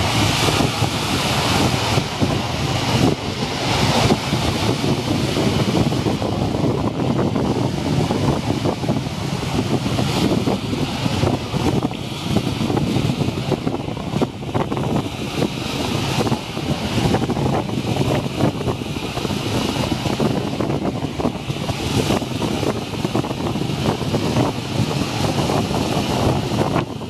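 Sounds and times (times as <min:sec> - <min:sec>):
waves crashing over rocks: 0:00.0 - 0:27.0
wind buffeting microphone: 0:00.0 - 0:27.0.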